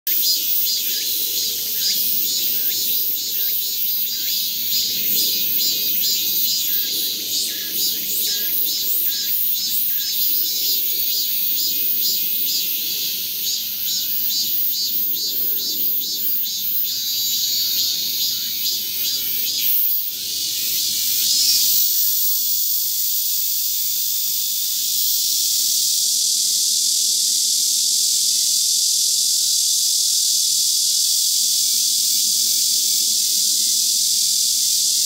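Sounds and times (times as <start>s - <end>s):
cicada singing: 0.0s - 35.0s.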